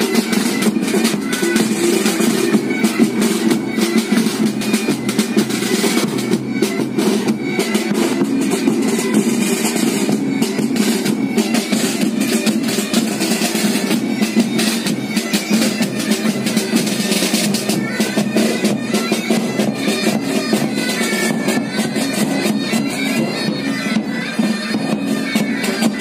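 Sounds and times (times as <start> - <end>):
bagpipes playing: 0.0 - 26.0.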